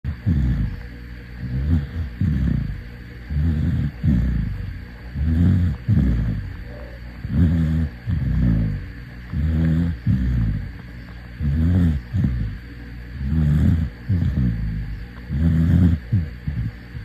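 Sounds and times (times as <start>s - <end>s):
dog snoring: 0.1s - 17.0s.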